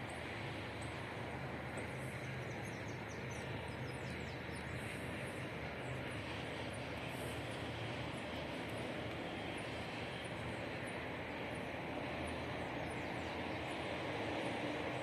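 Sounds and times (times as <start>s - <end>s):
low outdoor rumble and hum: 0.0s - 15.0s.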